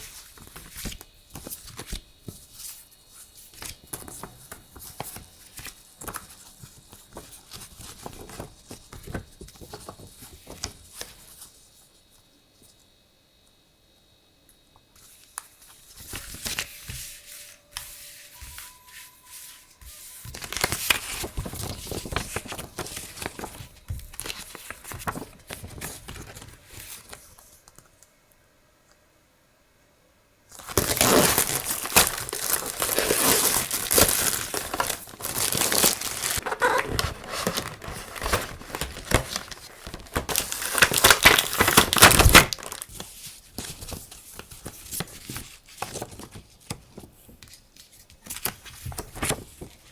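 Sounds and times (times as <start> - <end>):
packaging and paper rustling: 0.0 - 11.6, 15.0 - 27.9, 30.5 - 49.9.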